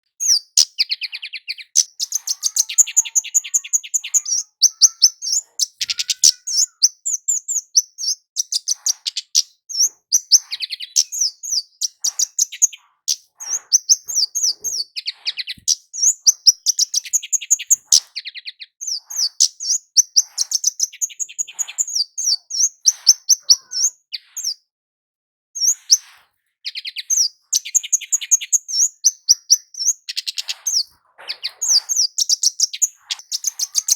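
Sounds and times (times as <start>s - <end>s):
bird singing high chirps: 0.0s - 24.6s, 25.6s - 33.9s.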